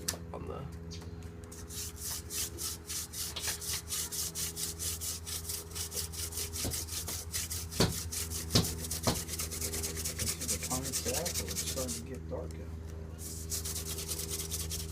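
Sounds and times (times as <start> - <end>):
spindle rubbing in wooden board: 1.5 - 12.1, 13.2 - 14.9.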